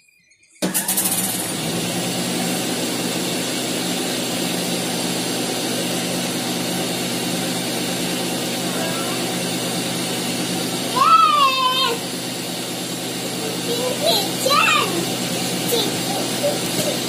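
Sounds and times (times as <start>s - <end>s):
cotton candy machine humming: 0.6s - 17.0s.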